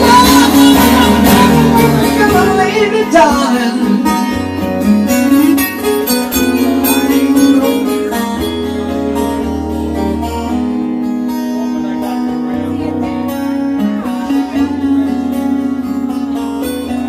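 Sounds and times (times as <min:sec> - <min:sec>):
guitar playing: 0:00.0 - 0:17.0.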